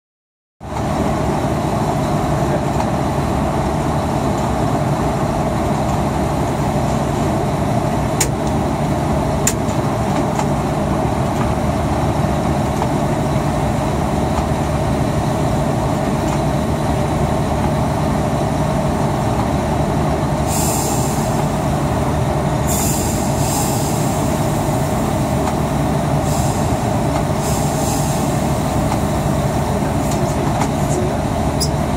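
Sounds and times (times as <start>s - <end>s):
locomotive engine drone: 0.6s - 31.9s
wheels rumbling on rails: 0.6s - 31.9s.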